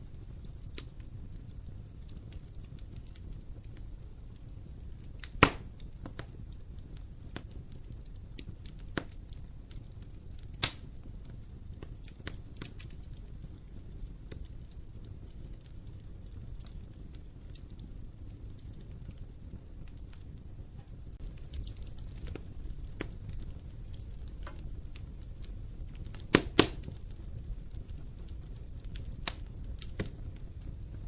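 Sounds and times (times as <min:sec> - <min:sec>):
fire crackling: 0:00.0 - 0:31.0
low rumble of flames: 0:00.0 - 0:31.0
sharp pops of fire: 0:00.0 - 0:31.0.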